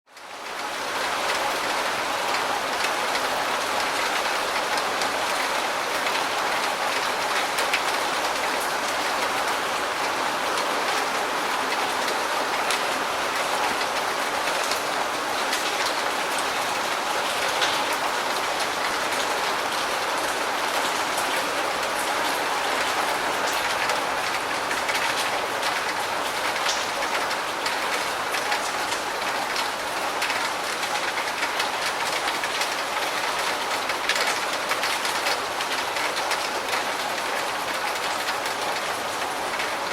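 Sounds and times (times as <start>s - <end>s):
steady rain falling: 0.1s - 39.9s.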